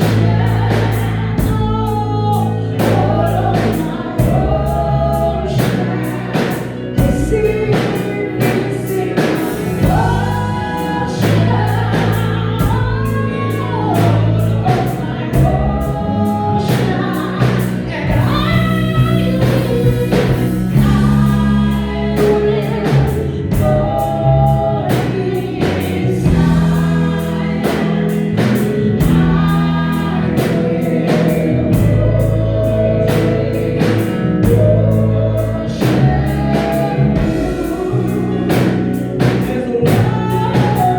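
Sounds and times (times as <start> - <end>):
choir singing gospel: 0.0 - 40.9
drums and bass beat: 0.0 - 40.9.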